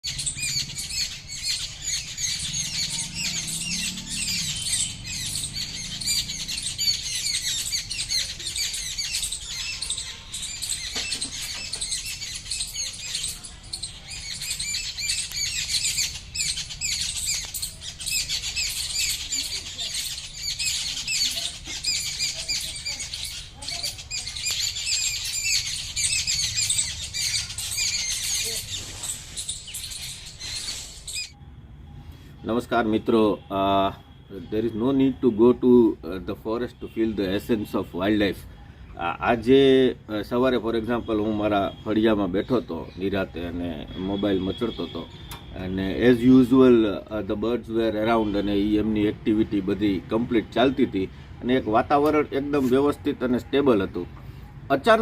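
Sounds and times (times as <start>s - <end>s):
birds chirping chorus: 0.0s - 55.0s.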